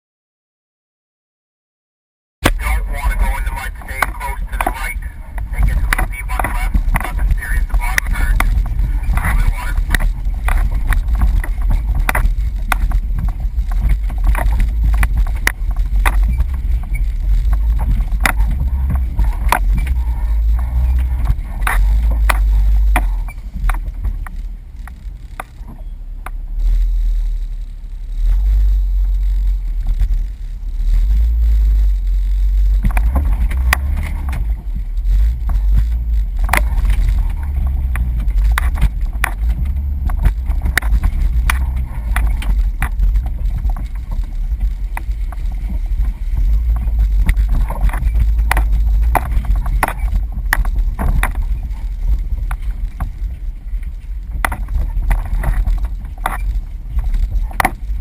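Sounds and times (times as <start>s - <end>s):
knocks and rattles: 2.4s - 58.0s
off-road vehicle rumbling: 2.4s - 58.0s.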